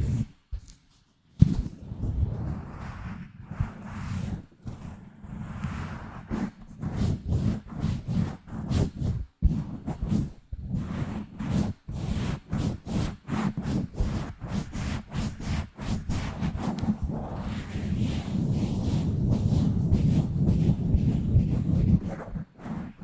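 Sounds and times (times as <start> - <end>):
fingers scratching on microphone: 0.0 - 23.0.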